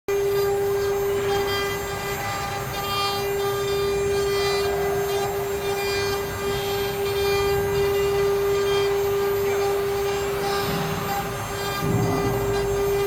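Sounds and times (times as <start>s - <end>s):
cnc router whining while cutting wood: 0.1s - 13.0s.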